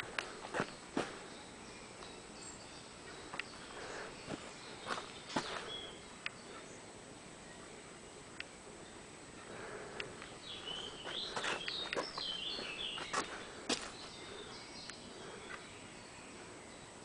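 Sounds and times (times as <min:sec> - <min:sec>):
faint outdoor hiss: 0:00.0 - 0:17.0
small bird singing: 0:00.0 - 0:17.0.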